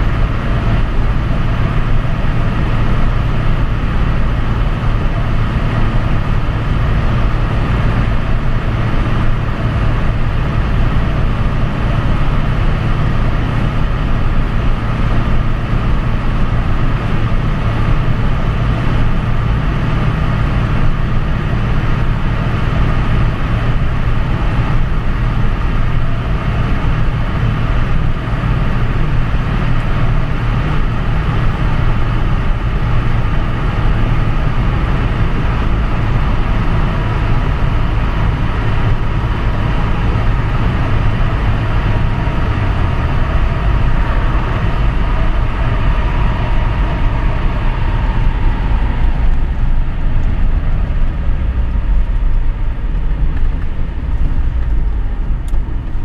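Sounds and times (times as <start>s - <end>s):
car engine at cruising speed: 0.0s - 56.0s
faint whine: 0.0s - 56.0s.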